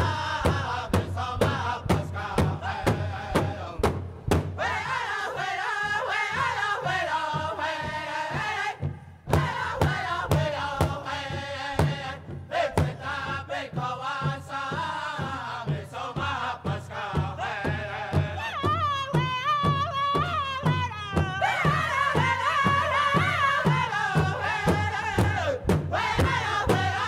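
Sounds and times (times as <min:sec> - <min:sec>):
chanted singing: 0:00.0 - 0:03.8, 0:04.6 - 0:27.0
steady drum beat: 0:00.0 - 0:27.0.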